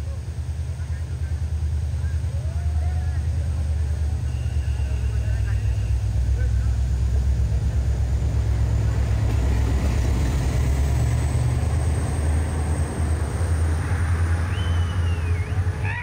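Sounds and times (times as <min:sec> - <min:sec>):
diesel locomotive passing: 0:00.0 - 0:16.0.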